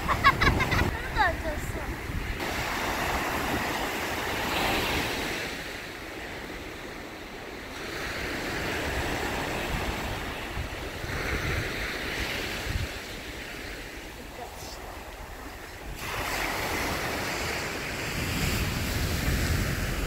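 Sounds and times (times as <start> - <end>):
surf washing up beach: 0.0 - 20.0
wind rumble on microphone: 0.0 - 20.0.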